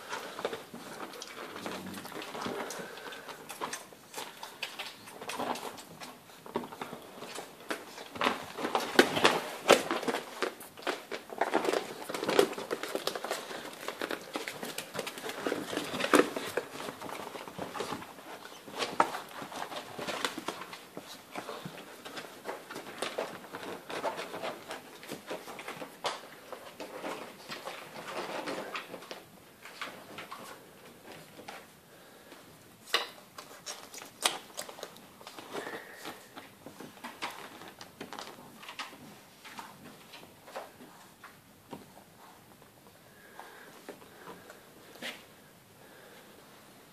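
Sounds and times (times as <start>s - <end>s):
bedding rustling: 0.0s - 46.9s.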